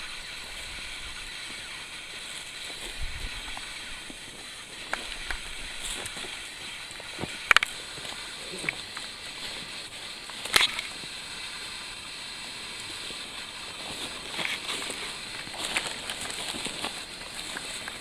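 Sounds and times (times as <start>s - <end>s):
footsteps through grass: 0.0s - 11.0s, 12.9s - 18.0s.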